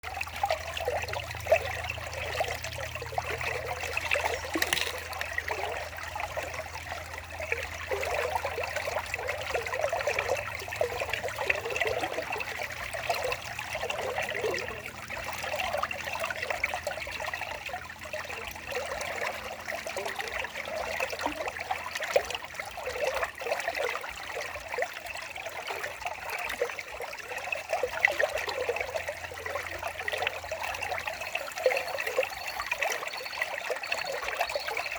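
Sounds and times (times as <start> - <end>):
small water splashes: 0.0 - 34.9
water trickling and bubbling: 0.0 - 34.9.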